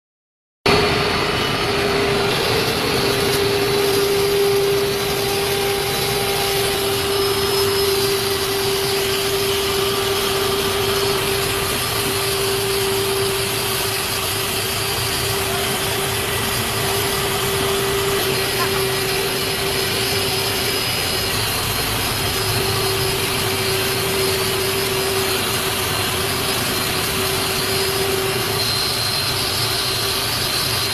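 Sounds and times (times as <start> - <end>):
grinding mill running: 0.7 - 30.9.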